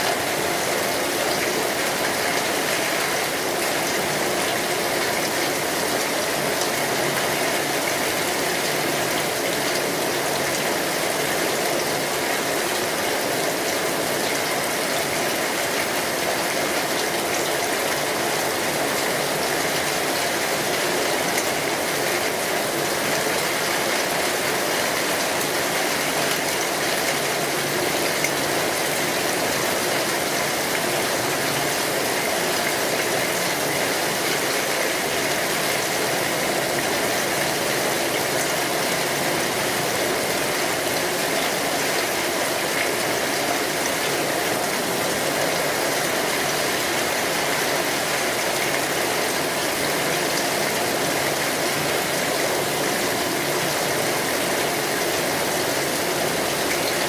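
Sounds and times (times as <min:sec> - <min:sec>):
rain on umbrella: 0:00.0 - 0:57.0.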